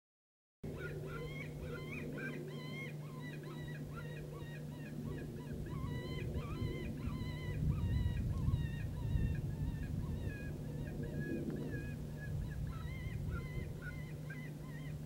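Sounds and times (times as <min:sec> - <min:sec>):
steady low hum: 0:00.7 - 0:15.0.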